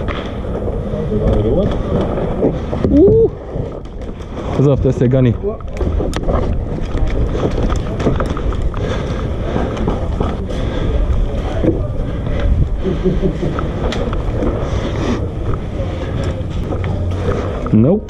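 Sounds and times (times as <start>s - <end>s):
wind buffeting microphone: 0.0s - 17.7s.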